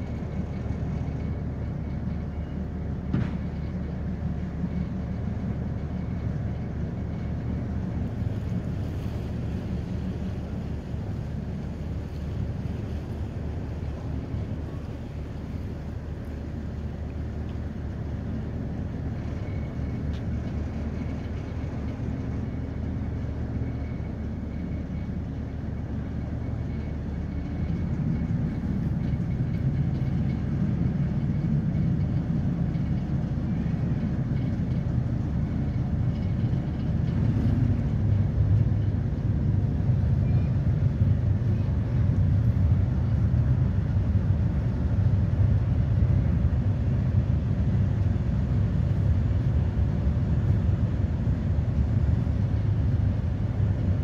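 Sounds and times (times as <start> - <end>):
boat engine low rumble: 0.0 - 54.0.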